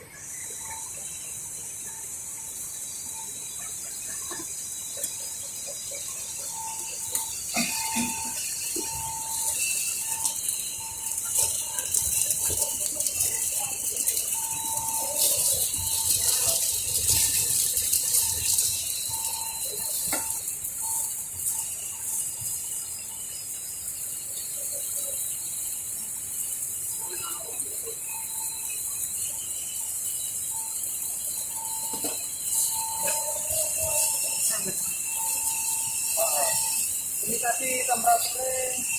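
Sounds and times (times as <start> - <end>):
machine running with high hiss: 0.0 - 38.9.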